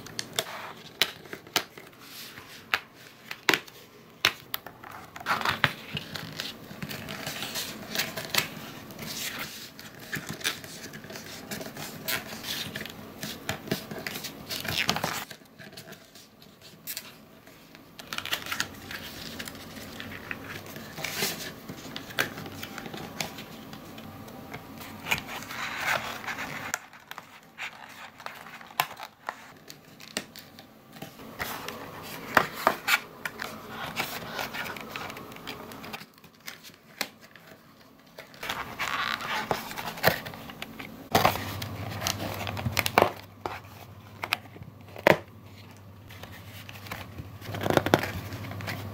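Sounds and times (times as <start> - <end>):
cardboard rustling and crinkling: 0.0 - 48.9.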